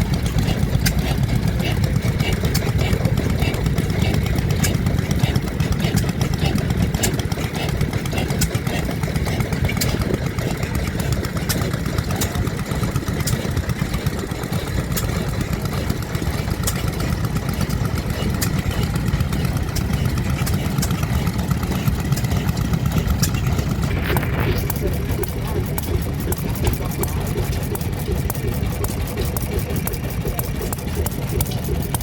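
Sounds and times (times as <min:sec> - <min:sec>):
stationary engines rumbling: 0:00.0 - 0:32.0.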